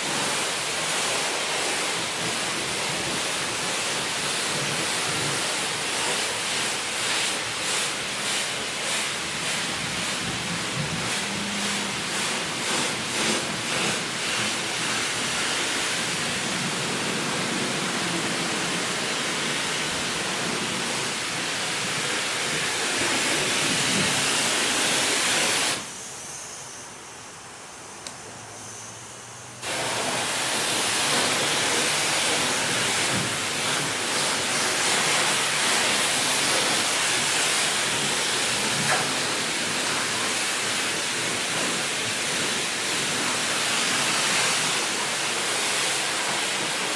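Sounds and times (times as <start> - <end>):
pressure water spray hissing: 0.0 - 46.9.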